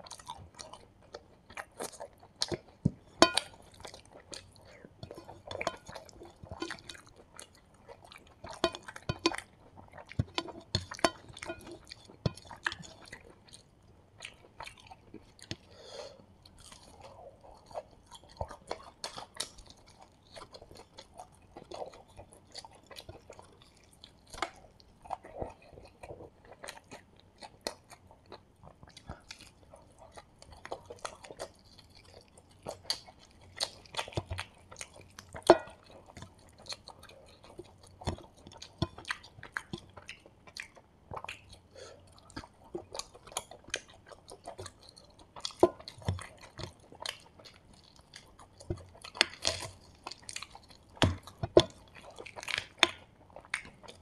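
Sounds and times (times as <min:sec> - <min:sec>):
chewing fried chicken: 0:00.0 - 0:54.0.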